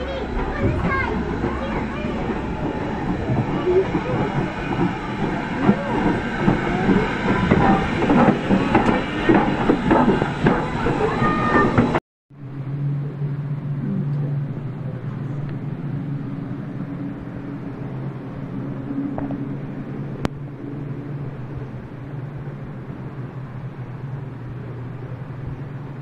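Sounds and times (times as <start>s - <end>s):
faint rumble: 0.0s - 26.0s
steady low hum: 0.0s - 26.0s.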